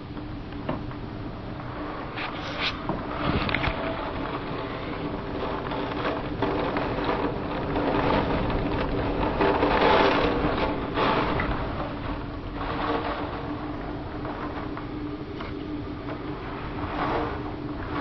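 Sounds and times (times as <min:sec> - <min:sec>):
steady low hum: 0:00.0 - 0:18.0
wind and rain against house: 0:00.0 - 0:18.0.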